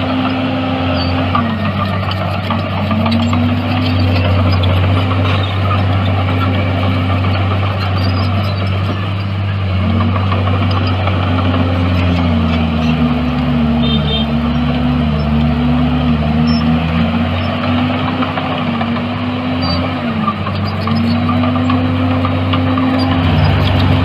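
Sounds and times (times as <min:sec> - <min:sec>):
heavy diesel engine drone: 0:00.0 - 0:24.0.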